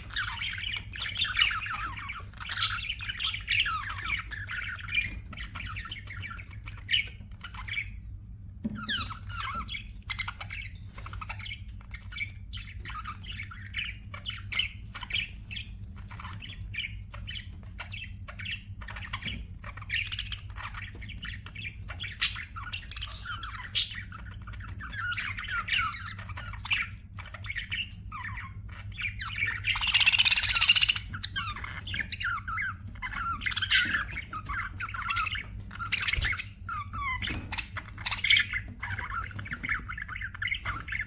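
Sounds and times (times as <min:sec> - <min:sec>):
budgerigars chattering and warbling: 0:00.0 - 0:41.0.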